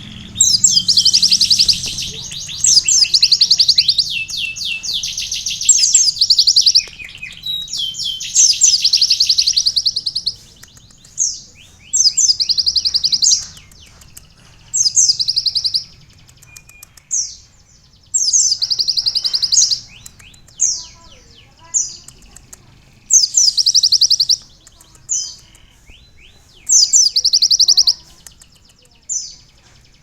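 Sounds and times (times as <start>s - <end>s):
sunbird singing trilled phrases: 0.0s - 22.2s, 22.9s - 29.5s.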